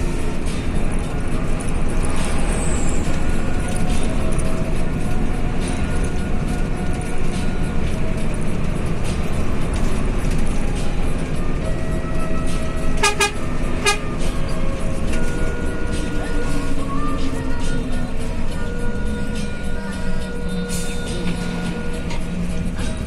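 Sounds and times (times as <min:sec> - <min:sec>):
bus diesel engine rumbling: 0:00.0 - 0:23.0.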